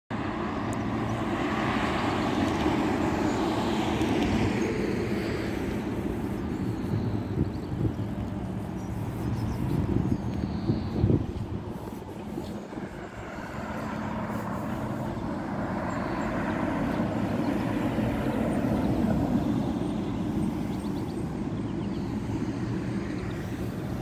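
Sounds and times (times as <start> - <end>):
background traffic: 0.1 - 24.0.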